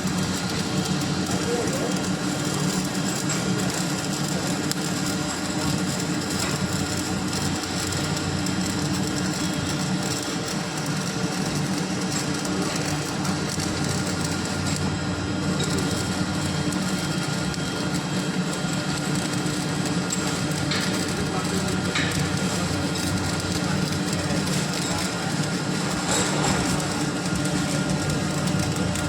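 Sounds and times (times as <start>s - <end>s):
welding arc crackling: 0.0s - 29.0s.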